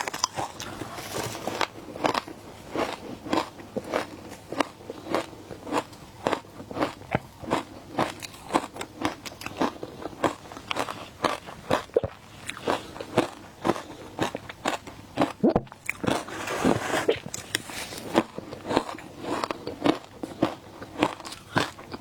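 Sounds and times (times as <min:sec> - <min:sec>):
person crunching ice: 0:00.0 - 0:22.0.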